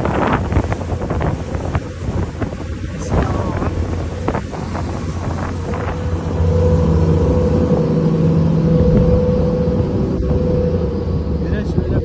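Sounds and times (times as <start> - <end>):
engine drone: 0.0 - 12.0
wind buffeting microphone: 0.0 - 12.0.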